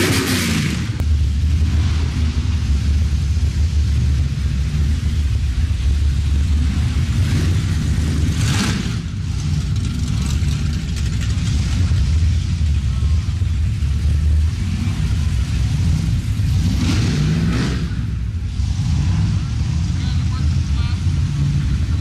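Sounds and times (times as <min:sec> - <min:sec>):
car engines rumbling past: 0:00.0 - 0:22.0.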